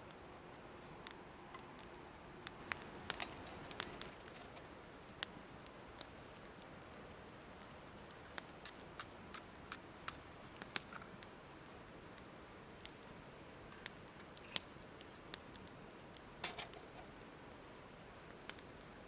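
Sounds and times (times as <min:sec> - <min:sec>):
faint steady hiss: 0:00.0 - 0:19.0
wood fire crackling: 0:00.0 - 0:19.0.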